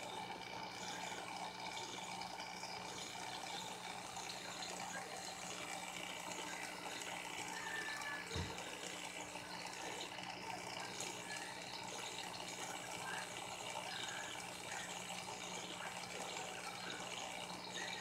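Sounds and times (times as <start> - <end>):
constant hum: 0.0 - 18.0
running water: 0.0 - 18.0.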